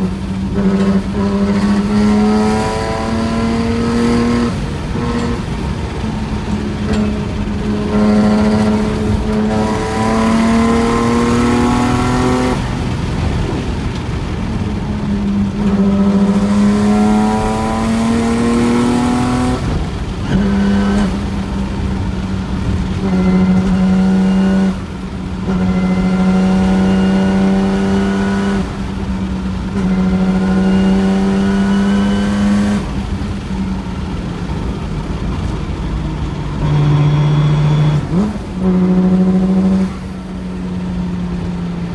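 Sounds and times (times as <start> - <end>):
car engine accelerating hard: 0.0 - 41.9.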